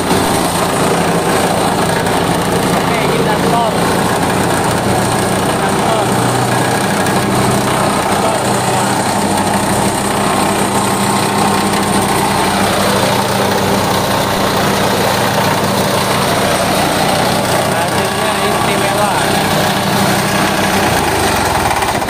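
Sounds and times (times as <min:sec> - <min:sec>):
small engine hum: 0:00.0 - 0:22.0
threshing drum and fan noise: 0:00.0 - 0:22.0.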